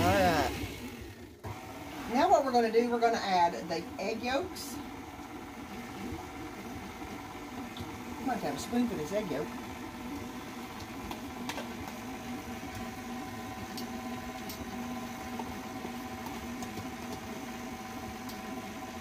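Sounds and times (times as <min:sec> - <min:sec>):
electric stand mixer running: 0:00.0 - 0:19.0.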